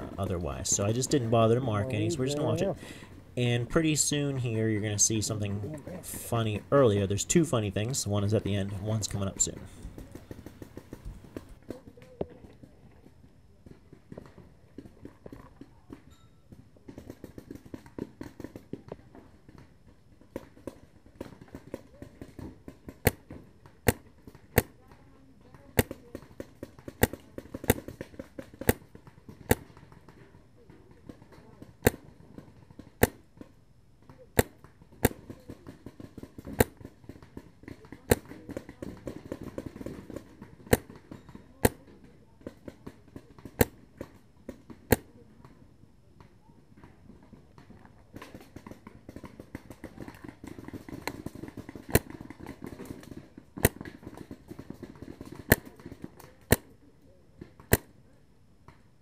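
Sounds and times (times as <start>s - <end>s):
paintball markers firing: 0.0s - 16.1s, 16.8s - 45.5s, 46.2s - 56.8s, 57.4s - 58.0s.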